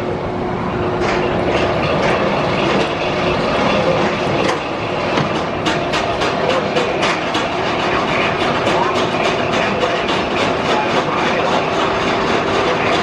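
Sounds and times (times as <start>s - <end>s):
roller coaster wheels rumbling: 0.0s - 13.0s
roller coaster clacking: 0.7s - 13.0s.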